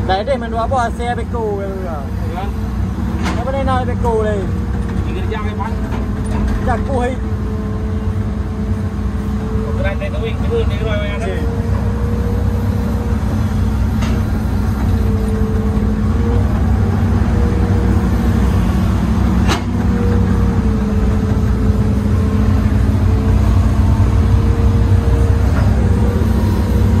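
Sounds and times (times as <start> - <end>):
excavator diesel engine rumble: 0.0 - 27.0
hydraulic whine: 2.0 - 27.0.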